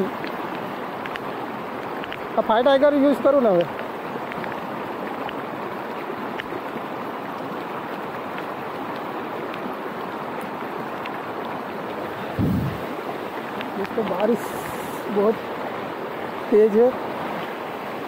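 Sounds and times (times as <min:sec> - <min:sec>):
heavy rain: 0:00.0 - 0:18.0
river rushing: 0:00.0 - 0:18.0.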